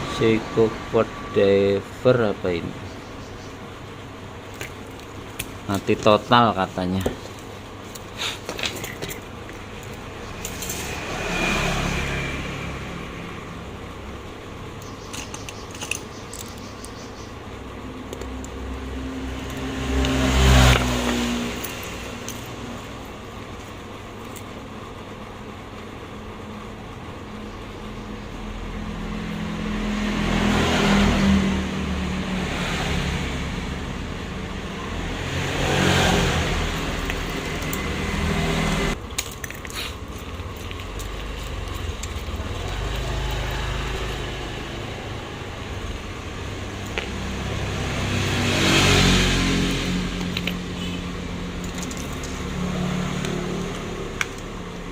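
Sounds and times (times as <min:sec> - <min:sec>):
road vehicles passing: 0:00.0 - 0:54.9.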